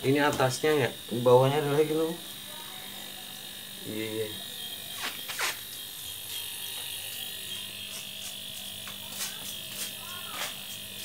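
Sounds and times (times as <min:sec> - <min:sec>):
compressor electric hum: 0:00.0 - 0:11.0.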